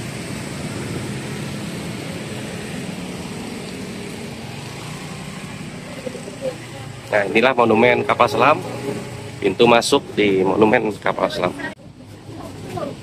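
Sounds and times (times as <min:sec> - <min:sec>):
street traffic drone: 0:00.0 - 0:13.0.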